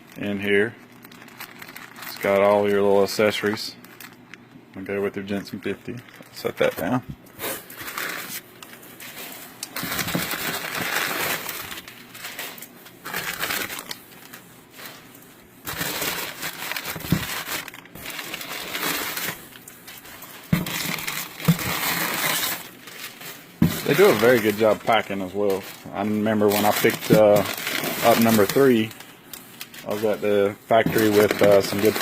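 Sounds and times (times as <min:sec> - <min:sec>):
packing paper rustling: 0:00.0 - 0:32.0.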